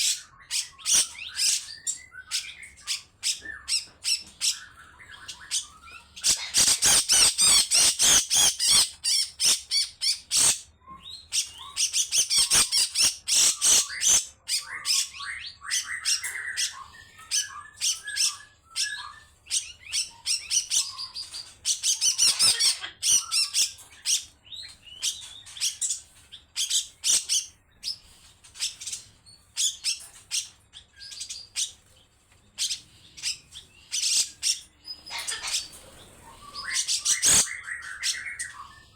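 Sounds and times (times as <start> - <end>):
bird harsh rasping calls: 0.0 - 10.6, 11.4 - 26.0, 32.6 - 38.8.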